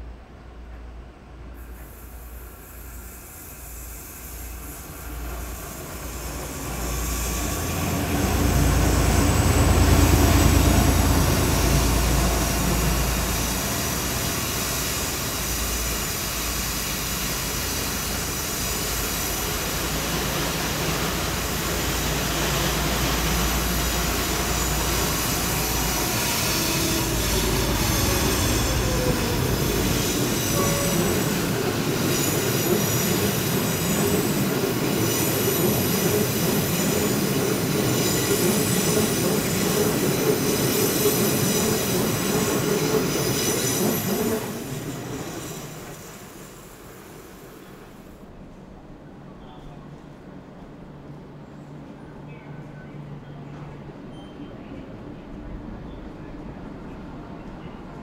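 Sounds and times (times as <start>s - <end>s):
low train rumble: 0.0s - 58.0s
train wheel squeal: 1.6s - 48.2s, 51.5s - 58.0s.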